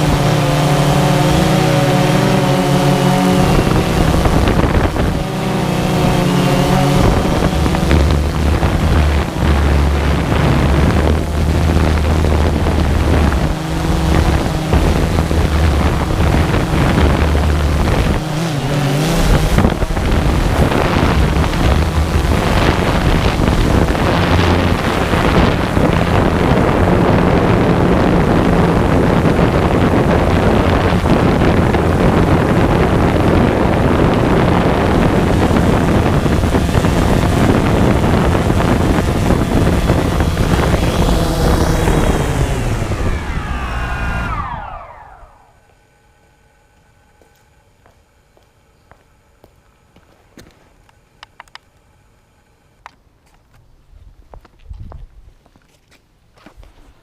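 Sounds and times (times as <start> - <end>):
wind buffeting microphone: 0.0 - 45.6, 54.0 - 55.5
drone propellers humming: 0.0 - 52.6.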